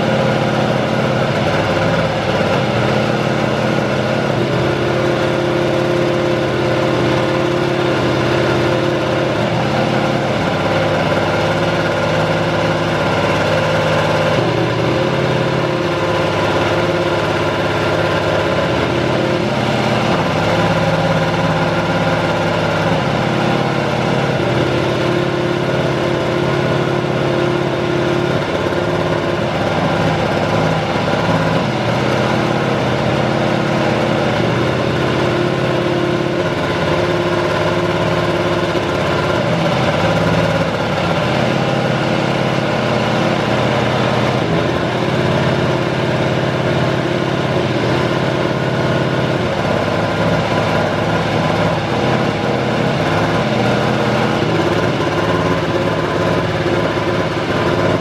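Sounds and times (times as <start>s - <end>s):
racing car engine running: 0.0s - 58.0s.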